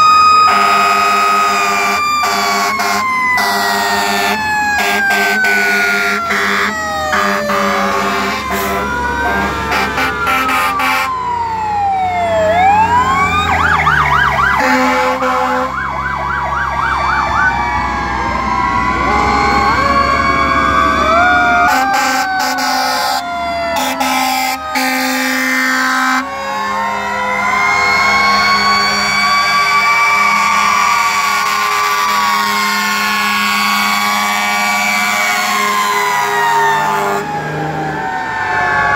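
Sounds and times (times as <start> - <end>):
fast siren yelp: 0.0 - 38.9
fire truck sirens wailing: 0.0 - 38.9.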